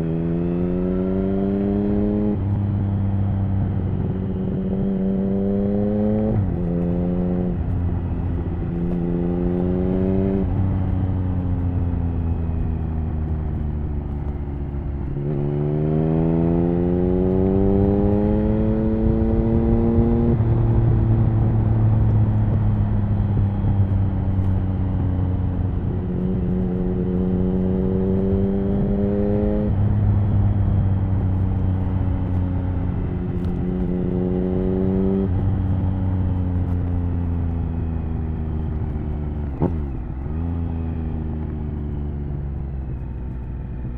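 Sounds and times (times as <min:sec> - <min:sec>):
motorcycle engine accelerating: 0:00.0 - 0:43.9
wind and road noise: 0:00.0 - 0:43.9.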